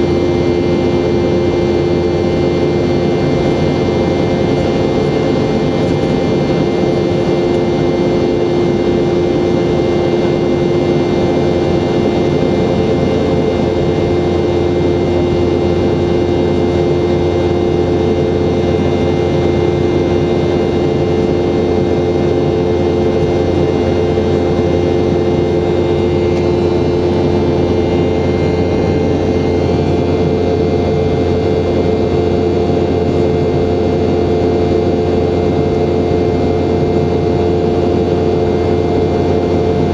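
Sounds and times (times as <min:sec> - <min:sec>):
jet engines droning in flight: 0:00.0 - 0:39.9.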